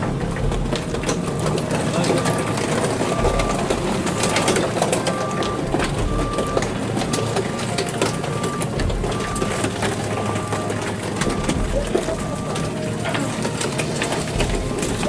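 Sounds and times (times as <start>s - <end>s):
gravel crunching under wheels: 0.0s - 15.0s
steady beeping: 0.0s - 15.0s
vehicle engine running: 0.0s - 15.0s.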